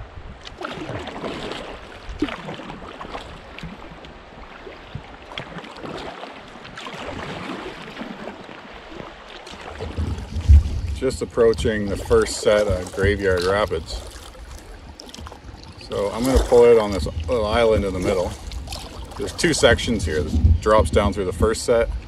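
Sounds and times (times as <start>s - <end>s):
water splashing around canoe: 0.0s - 22.0s.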